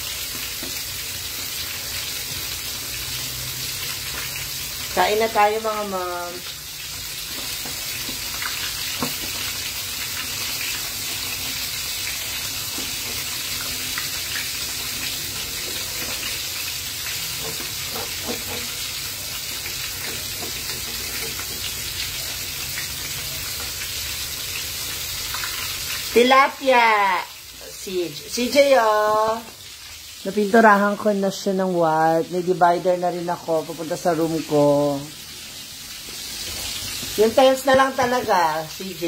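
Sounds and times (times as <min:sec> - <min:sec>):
fish sizzling in hot oil: 0:00.0 - 0:39.0.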